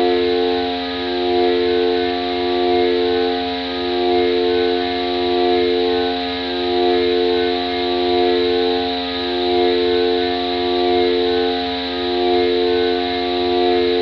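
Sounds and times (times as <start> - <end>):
synthesizer chord drone: 0.0 - 14.0.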